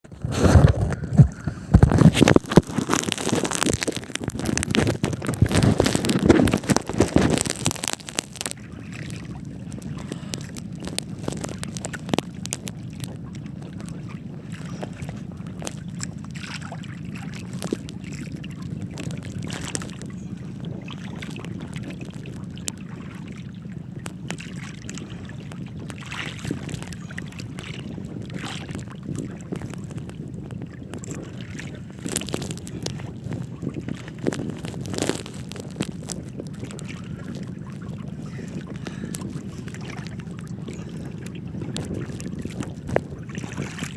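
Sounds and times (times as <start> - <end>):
wind buffeting microphone: 0.0 - 43.9
small boat engine hum: 0.1 - 43.9.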